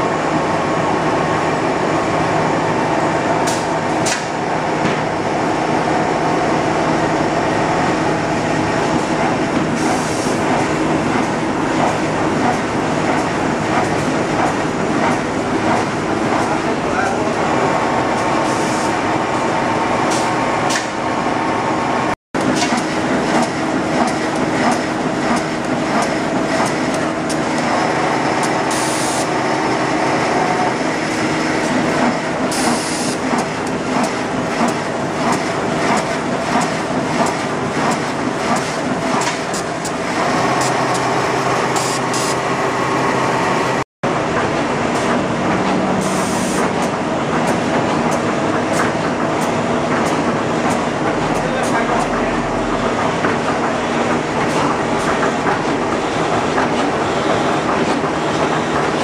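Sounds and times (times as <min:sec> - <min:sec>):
steady machine hum: 0:00.0 - 0:59.0
machinery clattering: 0:07.8 - 0:21.0, 0:22.4 - 0:42.2, 0:43.7 - 0:59.0.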